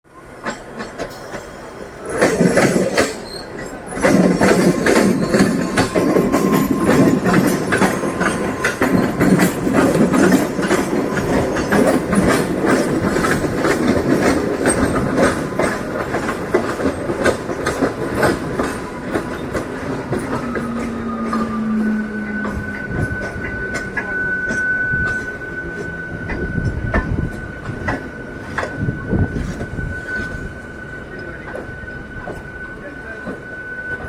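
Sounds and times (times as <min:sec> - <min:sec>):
train rumble: 0:00.1 - 0:34.0
train wheels clattering over rail joints: 0:00.3 - 0:30.4.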